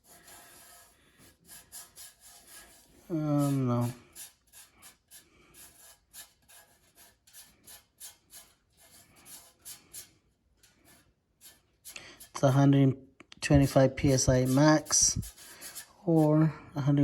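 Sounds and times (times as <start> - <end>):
rubbing and scraping of handling: 0.0 - 17.0.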